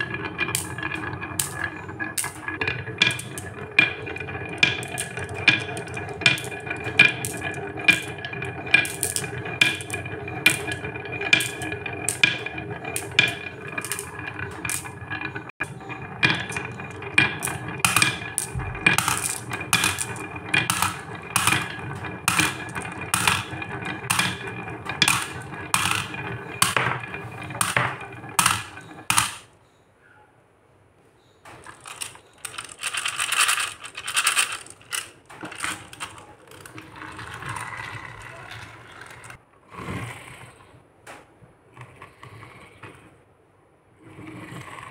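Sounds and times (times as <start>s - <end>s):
marbles clacking: 0.0s - 29.5s, 31.6s - 39.4s
marbles rolling on wooden track: 0.0s - 29.6s, 31.5s - 39.4s.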